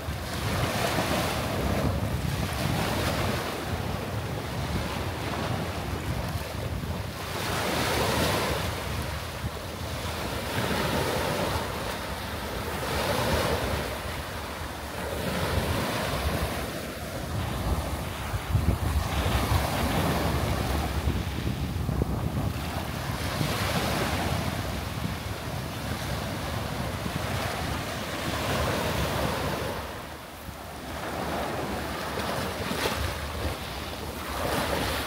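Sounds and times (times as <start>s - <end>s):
small waves breaking on sand: 0.0s - 35.0s
wind buffeting microphone: 0.0s - 35.0s.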